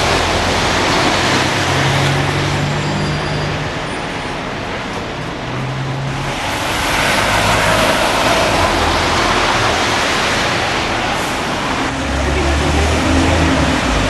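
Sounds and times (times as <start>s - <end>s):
heavy vehicle passing: 0.0s - 14.0s.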